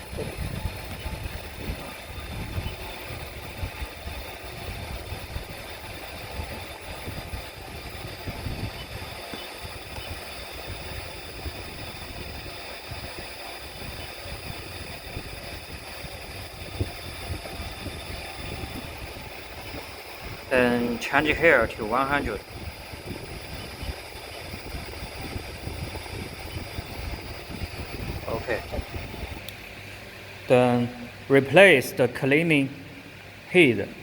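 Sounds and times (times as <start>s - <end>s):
faint high whine: 0.0s - 34.0s
low machine rumble: 0.0s - 34.0s.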